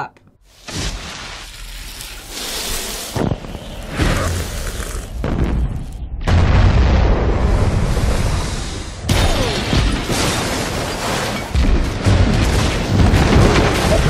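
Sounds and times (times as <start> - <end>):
flying debris: 0.7 - 14.0.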